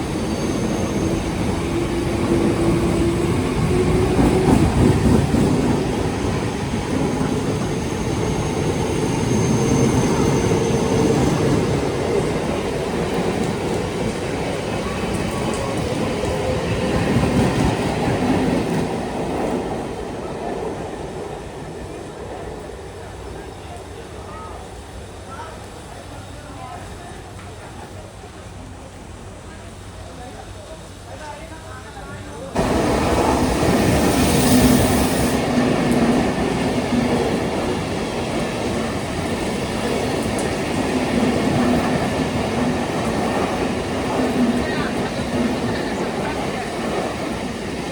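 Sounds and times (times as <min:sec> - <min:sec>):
train wheels rumbling on rail: 0:00.0 - 0:47.9.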